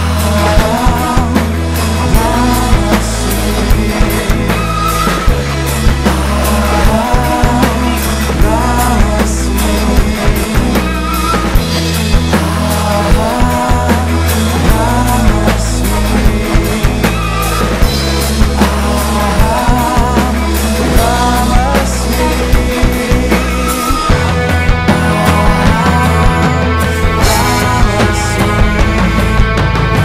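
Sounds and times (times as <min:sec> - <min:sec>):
drum kit beat: 0:00.0 - 0:30.0
person singing: 0:00.0 - 0:30.0
rock band playing: 0:00.0 - 0:30.0.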